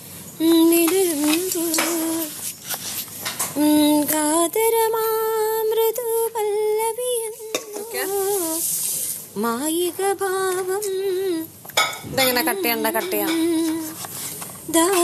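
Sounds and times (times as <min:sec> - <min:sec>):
steady sizzling hiss: 0:00.0 - 0:15.0
person singing wordless melody: 0:00.4 - 0:02.4, 0:03.6 - 0:15.0.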